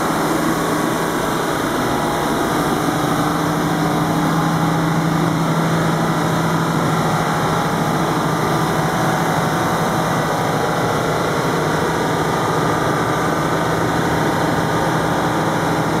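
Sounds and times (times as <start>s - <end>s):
diesel generator running: 0.0s - 16.0s.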